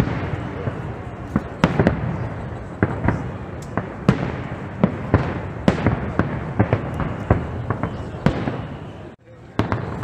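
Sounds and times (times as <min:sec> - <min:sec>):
rumble and crackle of explosions: 0:00.0 - 0:10.0.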